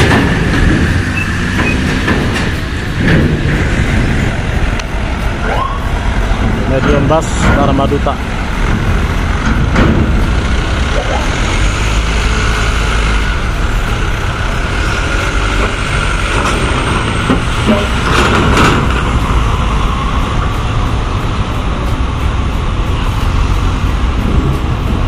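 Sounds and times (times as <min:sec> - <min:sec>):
bus diesel engine passing: 0:00.0 - 0:25.0.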